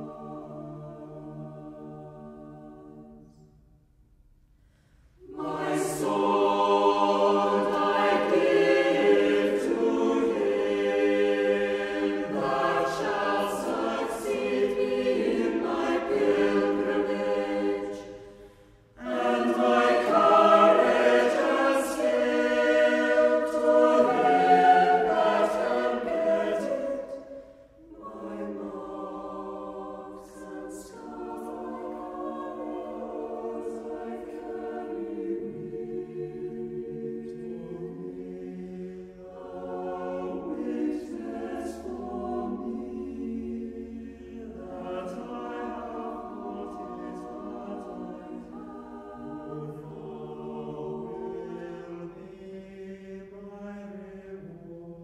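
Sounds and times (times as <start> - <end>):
choir singing: 0.0 - 3.6, 5.2 - 55.0.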